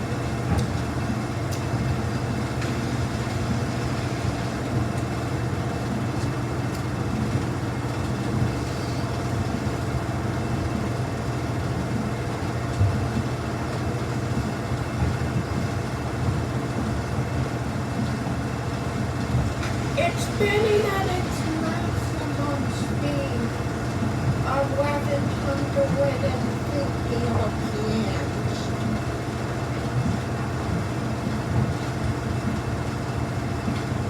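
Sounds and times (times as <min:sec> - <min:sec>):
washing machine spinning: 0:00.0 - 0:34.0.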